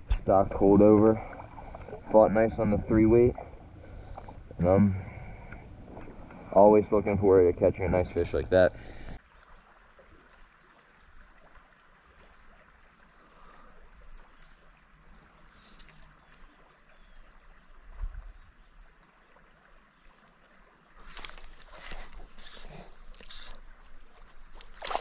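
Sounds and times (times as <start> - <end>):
creek water flowing: 0.0 - 25.0
water sloshing and splashing: 0.0 - 25.0.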